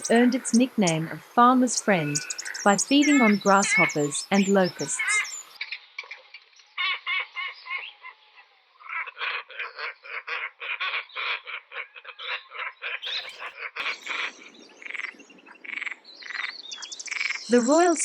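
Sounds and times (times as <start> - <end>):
birds calling harsh notes: 0.0 - 5.9, 8.8 - 18.0.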